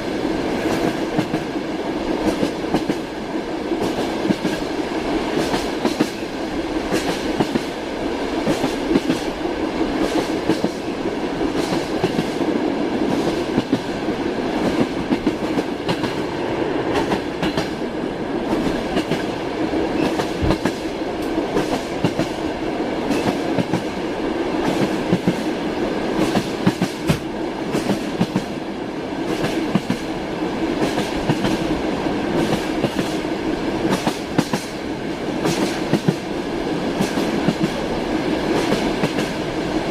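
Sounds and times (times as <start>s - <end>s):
moving train hum: 0.0s - 39.9s.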